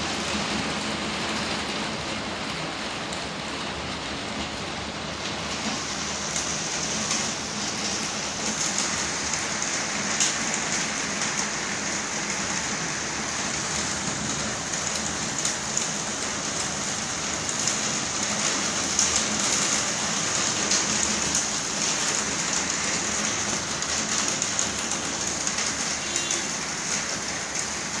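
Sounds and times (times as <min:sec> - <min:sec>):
torrential rain: 0:00.0 - 0:28.0.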